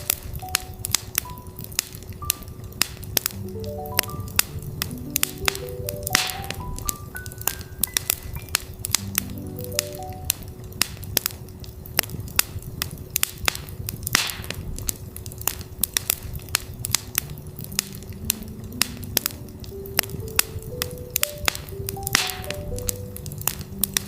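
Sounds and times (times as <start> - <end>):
campfire crackling and popping: 0.0 - 24.0
fire hiss: 0.0 - 24.0.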